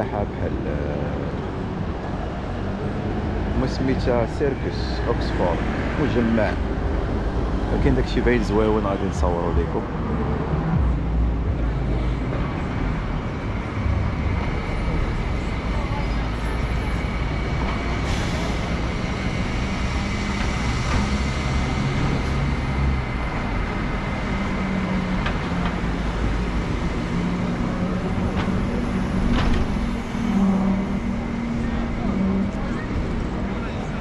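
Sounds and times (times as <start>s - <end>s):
bus engine running: 0.0s - 34.0s
traffic engines rumbling: 0.0s - 34.0s.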